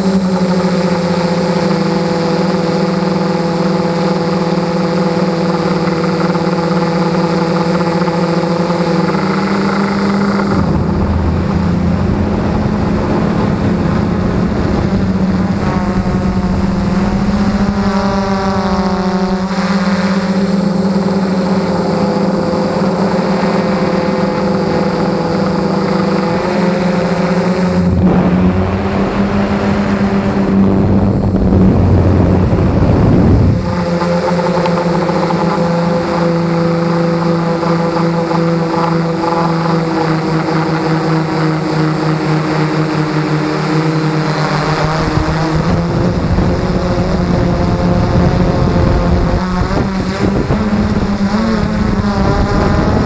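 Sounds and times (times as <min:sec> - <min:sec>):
drone motors and propellers: 0:00.0 - 0:53.0.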